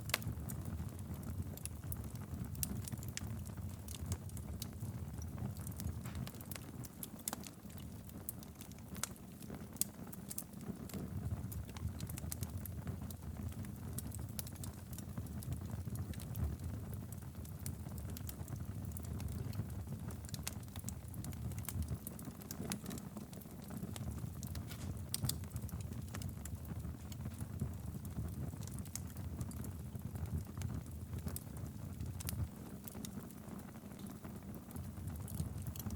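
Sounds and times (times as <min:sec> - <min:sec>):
fire crackling and popping: 0:00.0 - 0:35.9
fire flames rumbling: 0:00.0 - 0:35.9.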